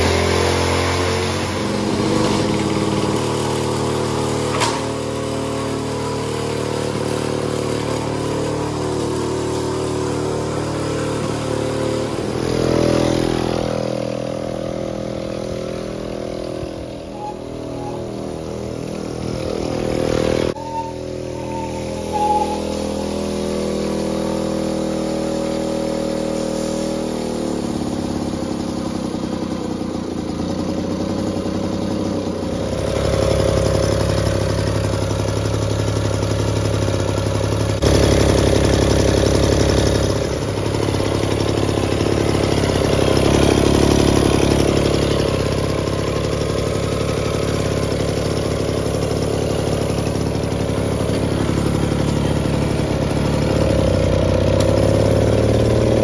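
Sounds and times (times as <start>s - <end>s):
moped engine running: 0.0s - 56.0s.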